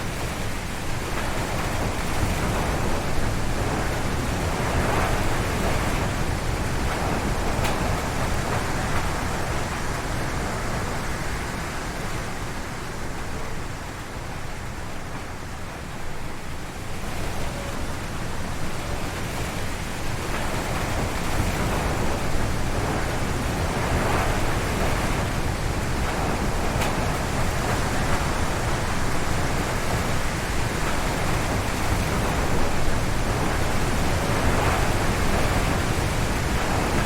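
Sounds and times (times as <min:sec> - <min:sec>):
wind gusting through trees: 0:00.0 - 0:37.0.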